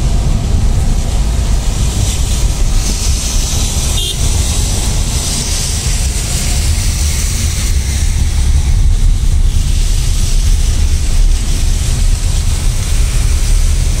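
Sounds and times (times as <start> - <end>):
car road noise rumble: 0.0 - 14.0
rain and tyre spray hiss: 0.0 - 14.0.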